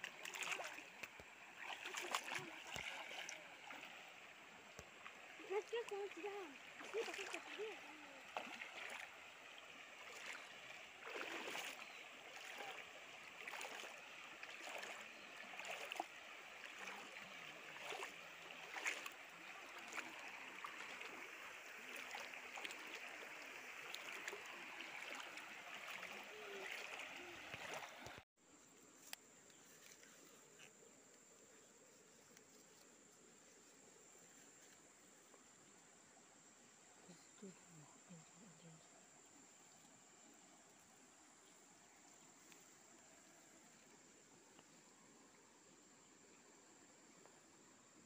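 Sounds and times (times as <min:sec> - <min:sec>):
light clicks and splashes: 0:00.0 - 0:36.2, 0:36.9 - 0:45.4
running water trickling: 0:00.0 - 0:48.0.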